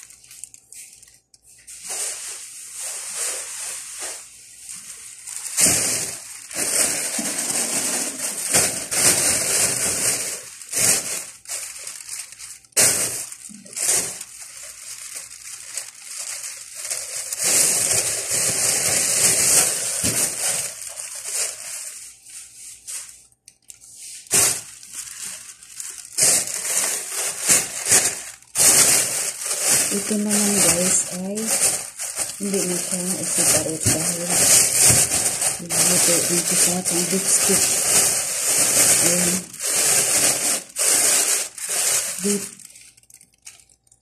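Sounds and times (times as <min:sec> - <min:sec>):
plastic bags rustling: 0:00.0 - 0:44.0.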